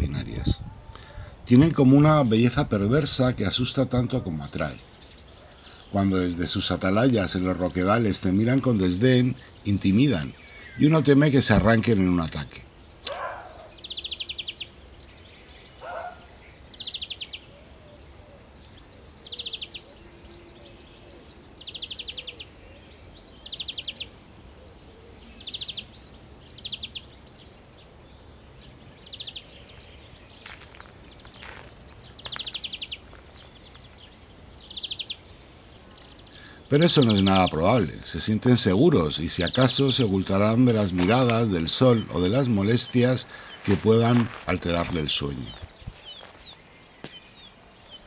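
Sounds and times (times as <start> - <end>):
faint outdoor ambience: 0.0 - 48.0.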